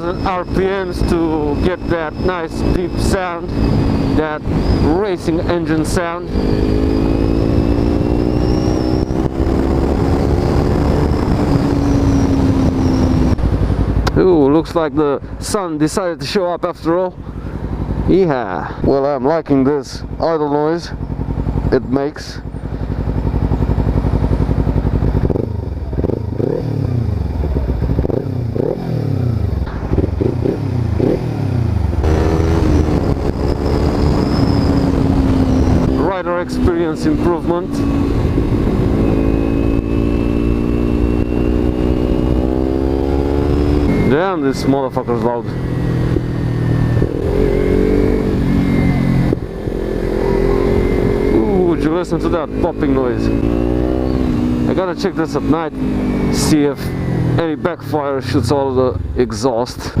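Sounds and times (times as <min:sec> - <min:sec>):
motorcycle engine deep note: 0:00.0 - 1:00.0.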